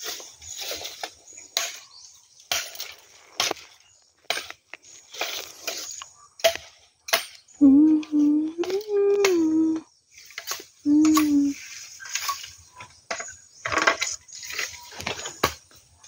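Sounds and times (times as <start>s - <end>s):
rustling of leaves and stalks: 0.0s - 16.0s.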